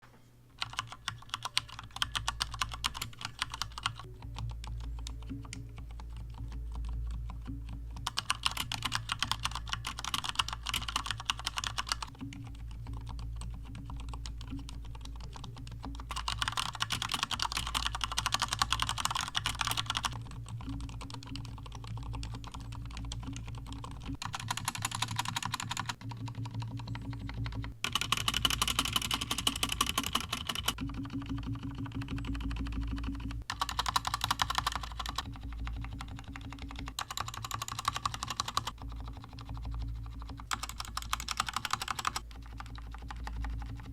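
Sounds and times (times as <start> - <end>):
steady low hum: 0.0 - 43.9
fast mechanical keyboard typing: 0.6 - 43.9.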